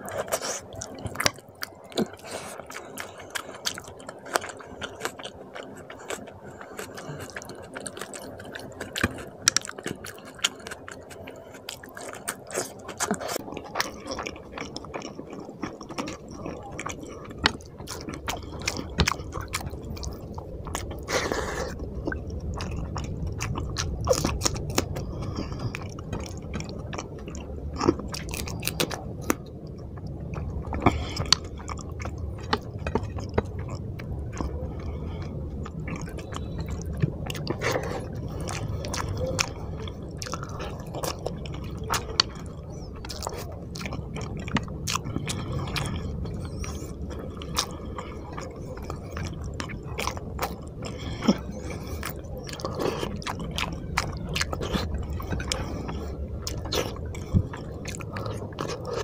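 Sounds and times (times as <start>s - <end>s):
close chewing with mouth clicks: 0.0s - 59.0s.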